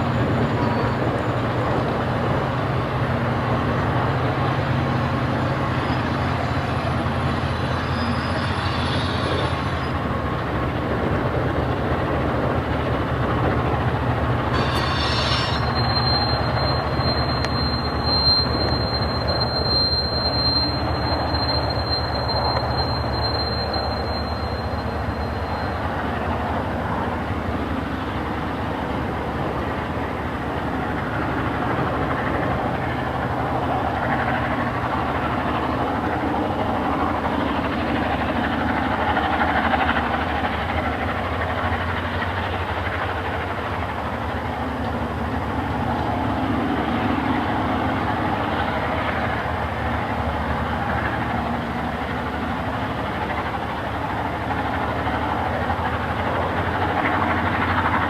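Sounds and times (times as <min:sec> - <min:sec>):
diesel locomotive engines running: 0:00.0 - 0:58.0.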